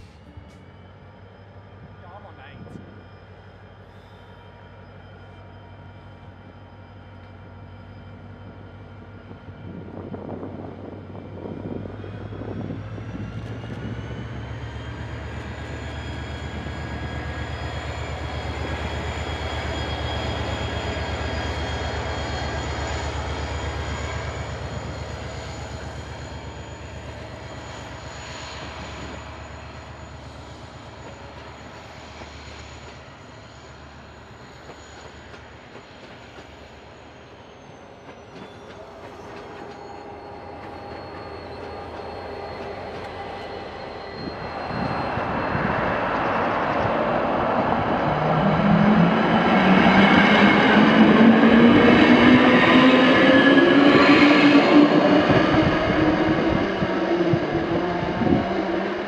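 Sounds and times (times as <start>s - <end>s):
train locomotive rumble and whine: 0.0s - 59.0s.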